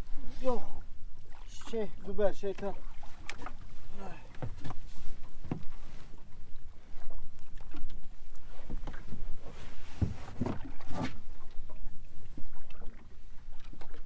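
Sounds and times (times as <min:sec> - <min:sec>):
water slapping against boat hull: 0:01.3 - 0:06.2, 0:07.0 - 0:14.0.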